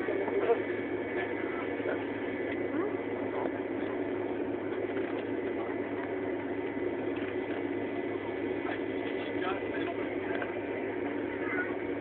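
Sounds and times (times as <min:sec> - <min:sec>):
airplane cabin rumble: 0:00.0 - 0:12.0
faint steady whine: 0:00.0 - 0:12.0.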